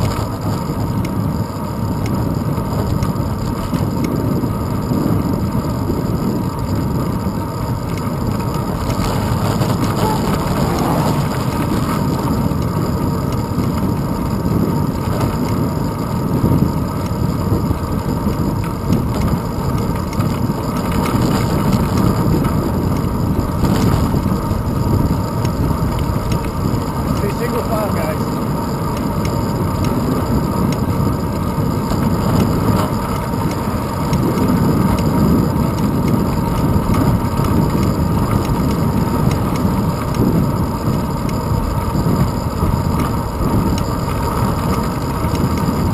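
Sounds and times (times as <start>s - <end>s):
bicycle road vibration: 0.0s - 45.9s
wind rumble: 0.0s - 45.9s.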